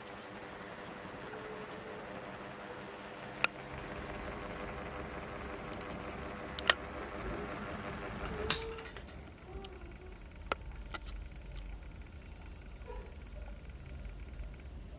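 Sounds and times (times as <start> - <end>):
ceiling fan whirring: 0.0 - 14.9.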